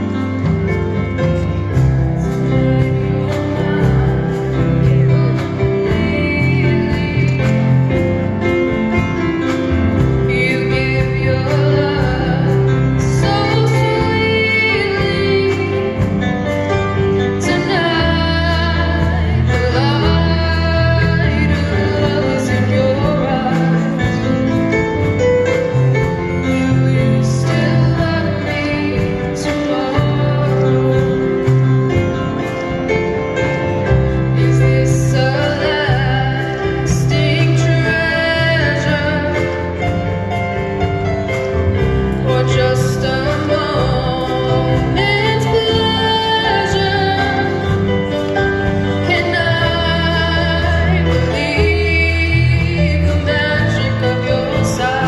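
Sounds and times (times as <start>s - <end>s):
instrumental music with bass line: 0.0s - 55.0s.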